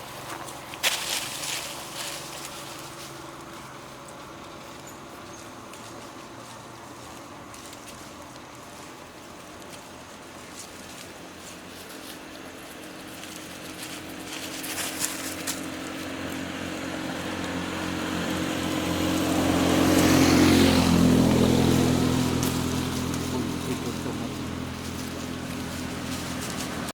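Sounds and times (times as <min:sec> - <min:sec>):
vehicle engine passing: 0:00.0 - 0:26.9.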